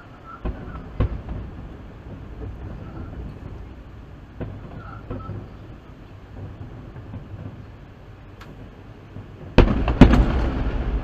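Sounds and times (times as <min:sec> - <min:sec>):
distant fireworks booming: 0:00.0 - 0:11.0.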